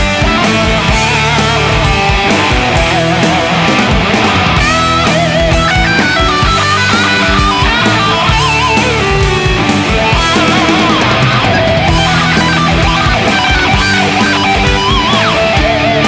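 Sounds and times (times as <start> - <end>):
heavy metal song: 0.0 - 16.0.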